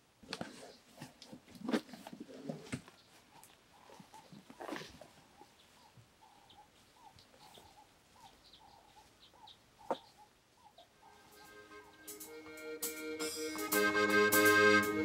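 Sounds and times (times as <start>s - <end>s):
faint birds calling: 0.0s - 12.8s.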